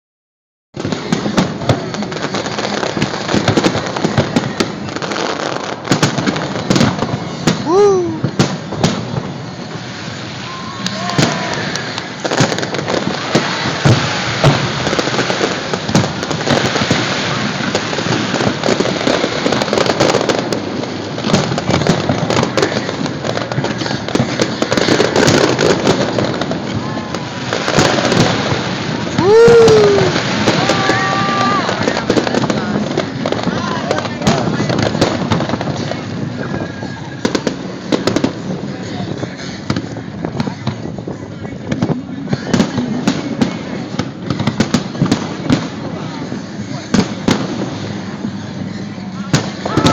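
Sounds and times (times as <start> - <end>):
fireworks crackling: 0.8 - 49.9
fireworks popping and banging: 0.8 - 49.9.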